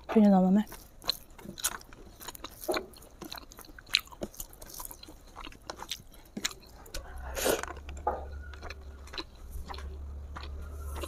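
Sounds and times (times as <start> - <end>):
person chewing wetly: 0.0 - 11.0.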